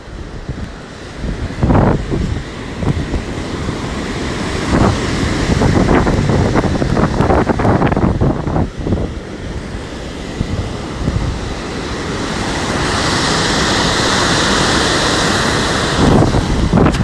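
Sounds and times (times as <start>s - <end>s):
heavy surf: 0.0s - 17.0s
wind rumbling on microphone: 0.0s - 17.0s.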